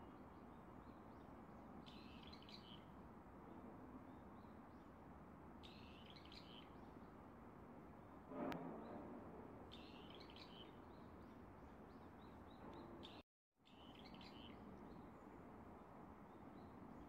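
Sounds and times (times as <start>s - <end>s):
outdoor background hiss: 0.0s - 8.6s, 9.2s - 17.0s.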